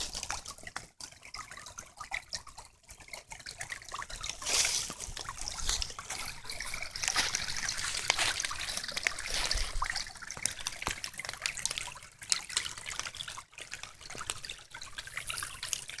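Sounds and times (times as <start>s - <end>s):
creek trickling and splashing: 0.0s - 16.0s.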